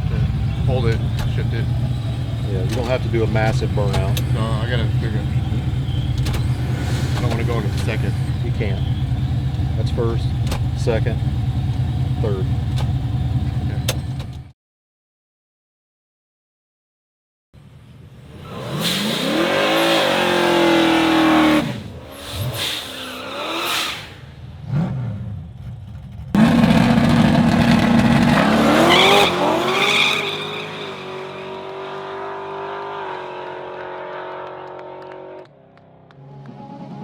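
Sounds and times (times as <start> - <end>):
race car engine revving: 0.0 - 14.5, 18.2 - 36.1.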